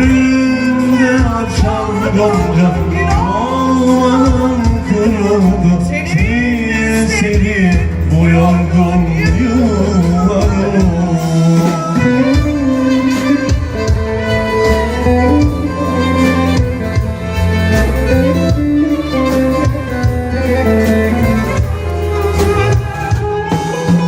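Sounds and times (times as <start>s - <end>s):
regular drum beat: 0.0s - 24.0s
steady bass line: 0.0s - 24.0s
violin-led string melody: 0.0s - 24.0s.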